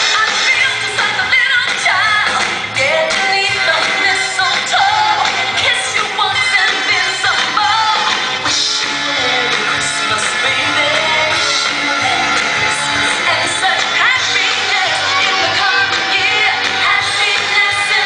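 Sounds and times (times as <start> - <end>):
pop music with singing: 0.0 - 18.0.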